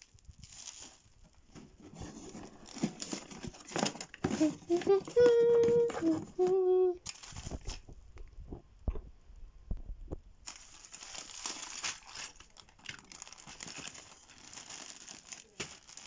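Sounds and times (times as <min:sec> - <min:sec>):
bubble wrap crinkling: 0:00.0 - 0:07.9, 0:10.4 - 0:16.0.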